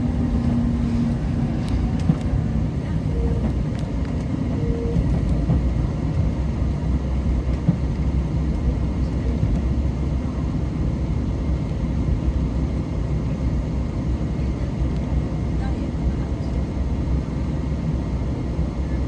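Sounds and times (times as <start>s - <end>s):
diesel railcar rumbling on rails: 0.0s - 19.0s.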